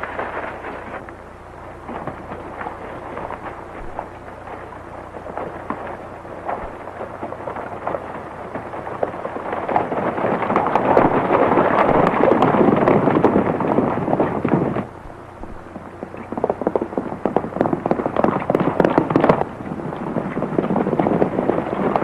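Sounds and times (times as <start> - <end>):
horses galloping hoofbeats: 0.0 - 22.0.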